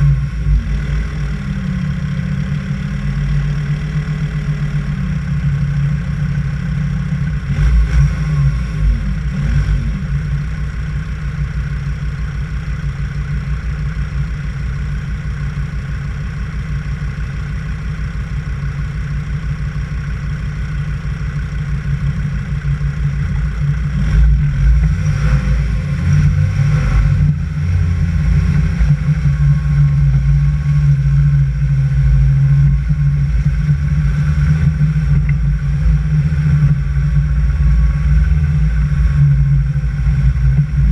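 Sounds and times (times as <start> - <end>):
vehicle engine idling and revving: 0.0 - 40.9.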